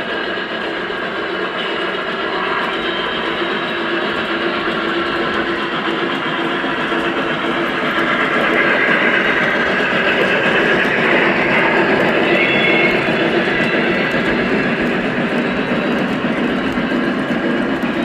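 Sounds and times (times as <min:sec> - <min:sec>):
model trains whirring on rails: 0:00.0 - 0:18.0.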